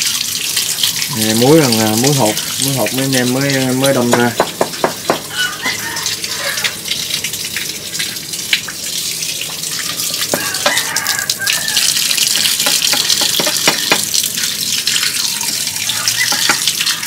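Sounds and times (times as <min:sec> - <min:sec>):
tap water splashing on concrete: 0:00.0 - 0:17.0.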